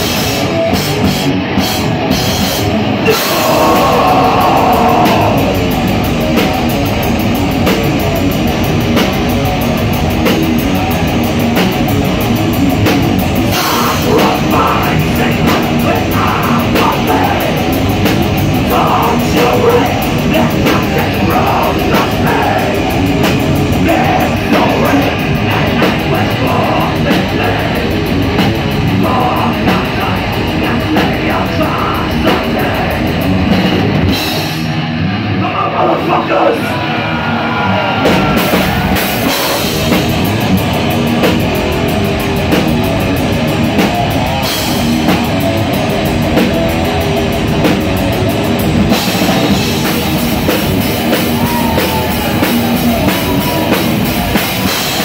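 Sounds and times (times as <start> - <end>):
bass guitar: 0.0 - 55.0
distorted electric guitars: 0.0 - 55.0
drum kit: 0.0 - 55.0.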